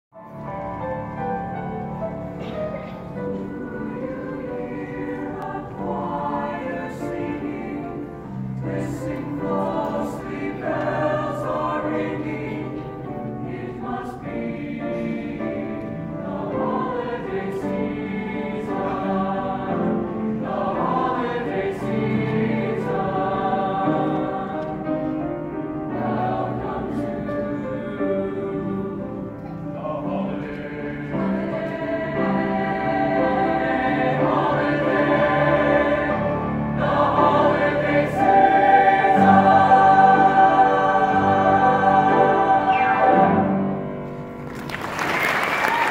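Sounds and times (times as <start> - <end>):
grand piano accompaniment: 0.1 - 45.9
choir singing in harmony: 0.2 - 45.9.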